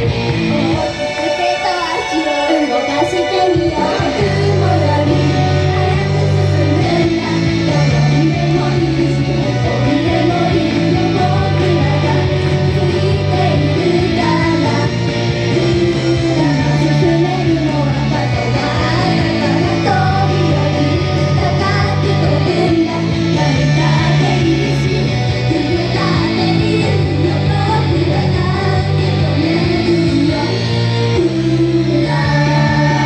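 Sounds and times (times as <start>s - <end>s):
backing music with guitar: 0.0s - 33.0s
girls singing into microphones: 0.0s - 33.0s.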